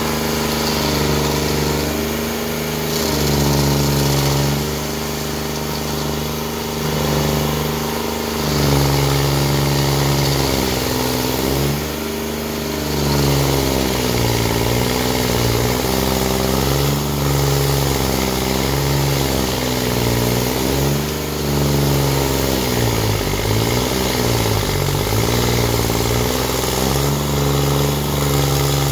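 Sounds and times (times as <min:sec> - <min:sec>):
grinding hiss: 0:00.0 - 0:28.9
stump grinder engine running hard: 0:00.0 - 0:28.9.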